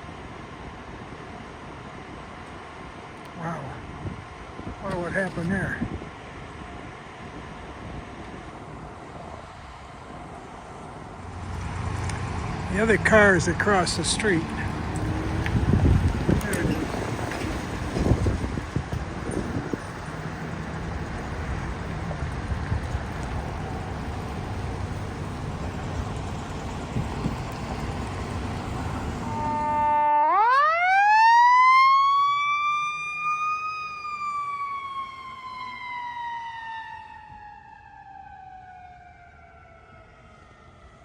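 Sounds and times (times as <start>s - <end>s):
traffic: 0.0s - 41.0s
wind: 0.0s - 41.0s
emergency vehicle siren wailing: 6.2s - 41.0s.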